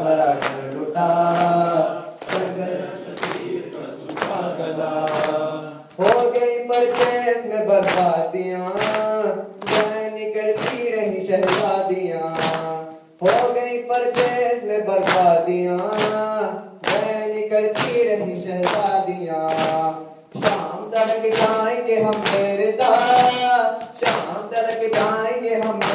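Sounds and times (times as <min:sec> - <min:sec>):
men singing a lament: 0:00.0 - 0:25.9
rhythmic chest slapping: 0:00.0 - 0:25.9.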